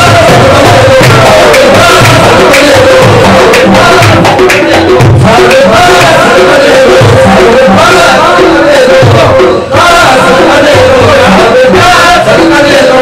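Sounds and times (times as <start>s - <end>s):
drum strokes: 0.0s - 13.0s
person singing devotional song: 0.0s - 13.0s
tabla: 0.0s - 13.0s.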